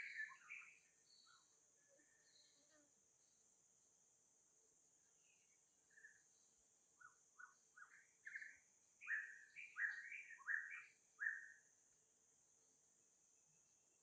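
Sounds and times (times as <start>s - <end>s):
insect hiss: 0.0s - 14.0s.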